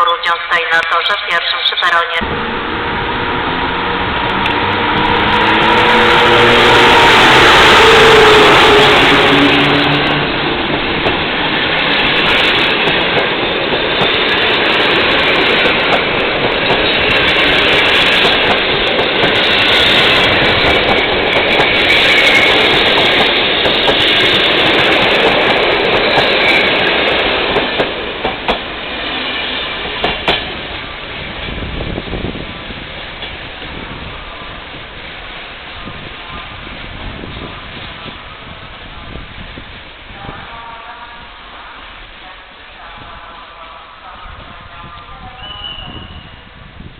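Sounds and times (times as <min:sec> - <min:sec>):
train carriages rolling: 0:02.2 - 0:40.8.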